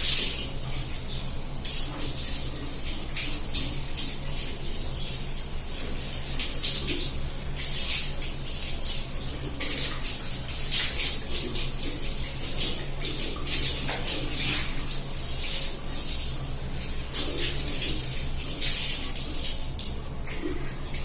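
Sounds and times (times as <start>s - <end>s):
tap water splashing on hair: 0.0s - 21.0s.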